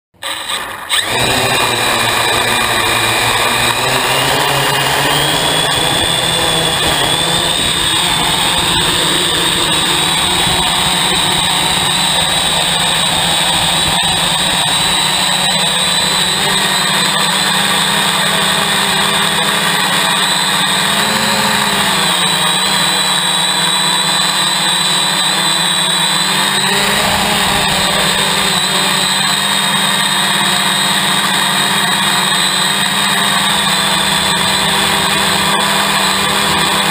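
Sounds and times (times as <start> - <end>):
drone motors whining: 0.2 - 36.9.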